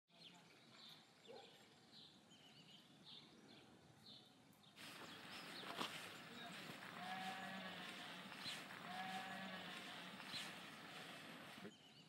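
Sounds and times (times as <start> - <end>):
faint bird chirps: 0.1 - 12.0
background hiss: 1.2 - 11.7.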